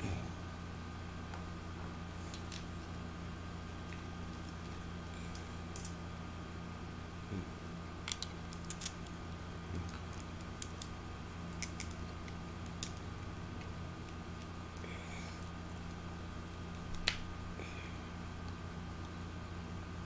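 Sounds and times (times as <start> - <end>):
steady low electrical hum: 0.0 - 20.0.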